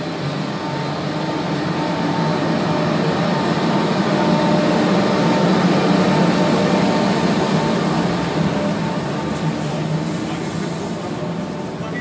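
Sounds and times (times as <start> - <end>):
electric locomotive humming: 0.0 - 12.0.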